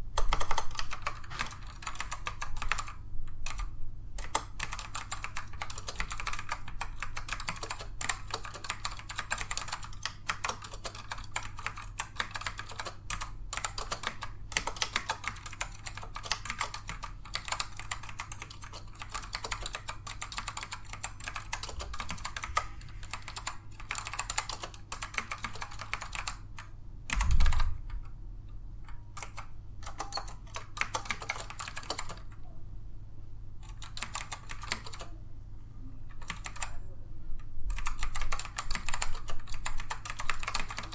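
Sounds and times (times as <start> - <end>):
fast keyboard typing: 0.2 - 28.1, 28.9 - 32.4, 33.6 - 35.2, 36.1 - 36.8, 37.7 - 40.9.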